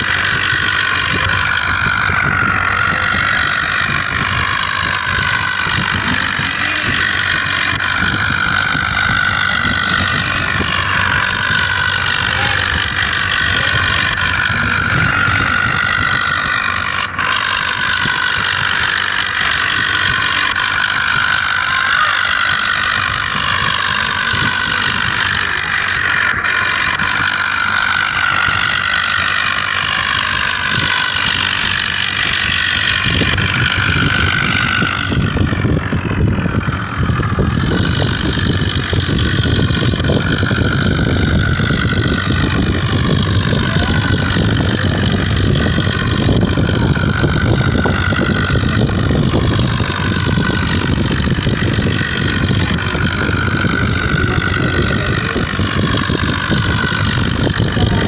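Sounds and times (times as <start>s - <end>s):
motor vehicle running: 0.0s - 58.0s.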